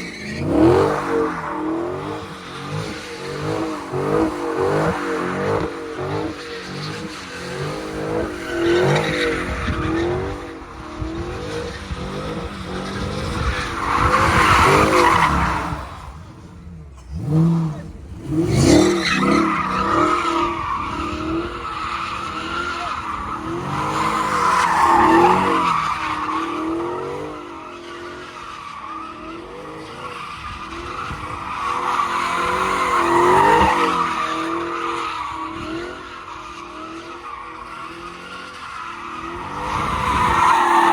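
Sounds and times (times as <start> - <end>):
car engines revving hard: 0.0 - 40.9
tires screeching: 0.0 - 40.9.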